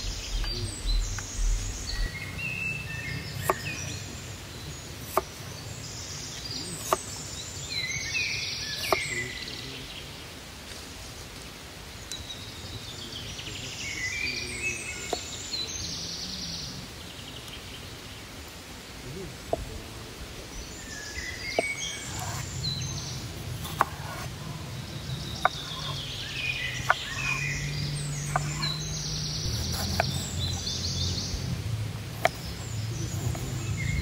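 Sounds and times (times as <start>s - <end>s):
birds singing: 0.0s - 34.0s.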